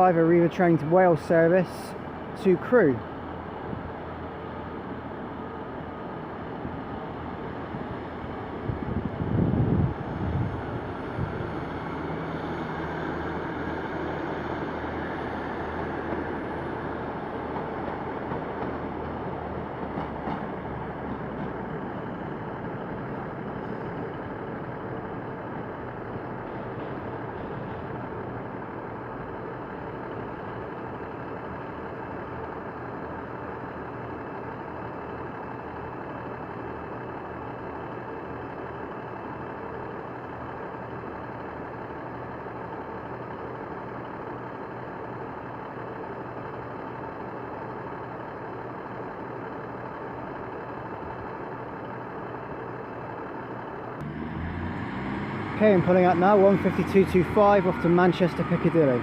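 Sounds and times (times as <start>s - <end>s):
train diesel engine idling: 0.0s - 54.1s, 55.6s - 59.0s.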